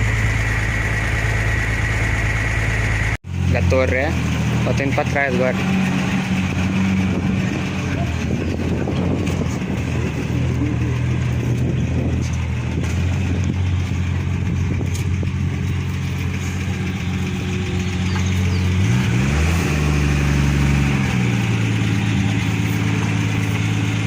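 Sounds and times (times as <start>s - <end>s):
pickup engine idling and revving: 0.0s - 24.0s.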